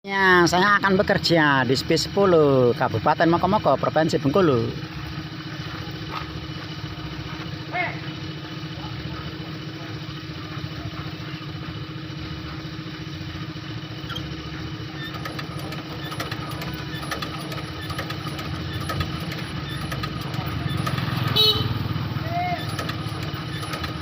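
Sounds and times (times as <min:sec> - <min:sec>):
small engine idling: 0:00.1 - 0:24.0.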